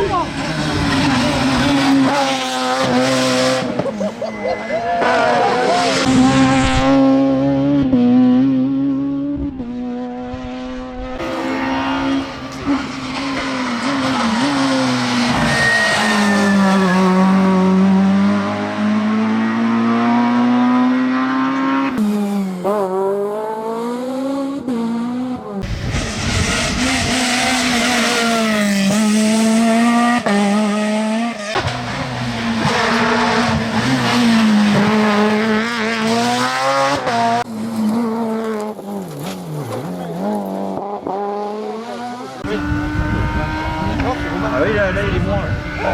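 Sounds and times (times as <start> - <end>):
rally car engines at full throttle: 0.0 - 45.9.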